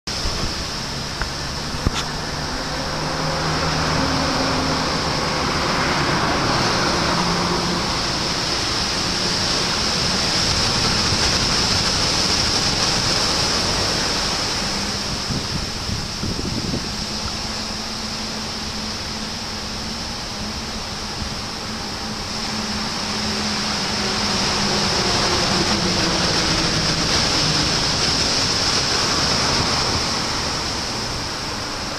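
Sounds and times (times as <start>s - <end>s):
roar of breaking waves: 0.1s - 31.9s.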